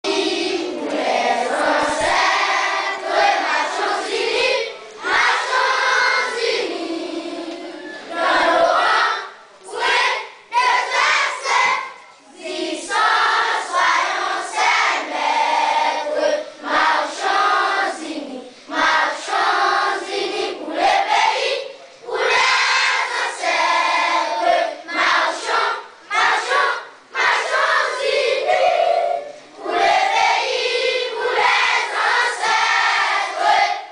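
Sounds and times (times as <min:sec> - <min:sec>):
children singing in unison: 0:00.0 - 0:33.9.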